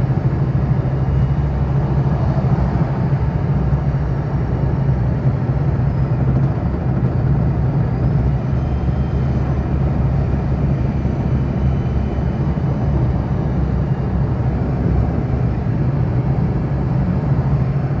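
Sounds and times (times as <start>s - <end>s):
car engine low drone: 0.0s - 18.0s
road noise: 0.0s - 18.0s.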